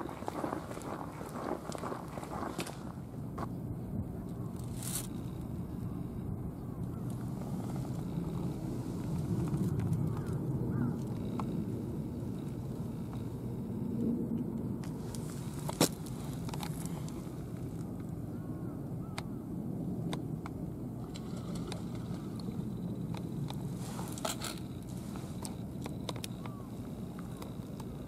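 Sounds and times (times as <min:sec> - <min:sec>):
distant traffic: 0:00.0 - 0:28.0
wind: 0:00.0 - 0:28.0.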